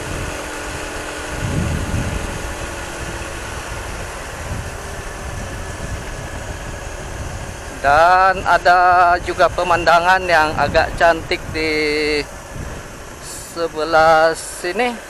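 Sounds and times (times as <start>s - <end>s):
motorcycle engine cruising: 0.0s - 15.0s
wind rushing on microphone: 0.0s - 15.0s.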